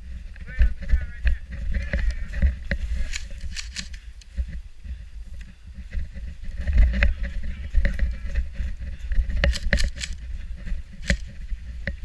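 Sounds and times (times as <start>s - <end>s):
low rumble on microphone: 0.0s - 12.0s.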